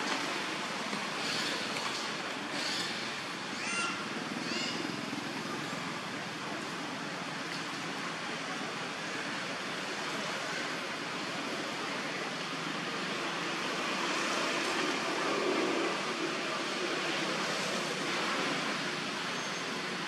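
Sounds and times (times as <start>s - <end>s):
rushing muddy water: 0.0s - 20.0s.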